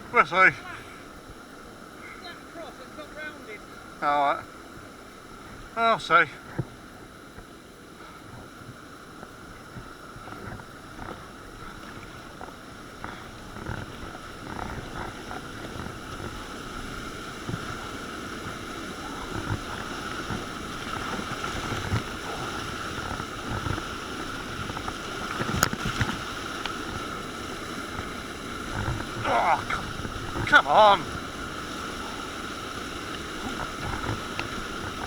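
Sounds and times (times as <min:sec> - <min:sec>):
whitewater rushing and splashing: 0:00.0 - 0:35.0.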